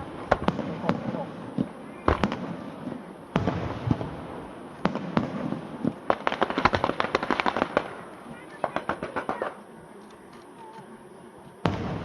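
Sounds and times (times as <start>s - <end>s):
fireworks bangs: 0.0s - 9.7s, 11.6s - 12.0s
sharp crackling pops: 0.0s - 12.0s.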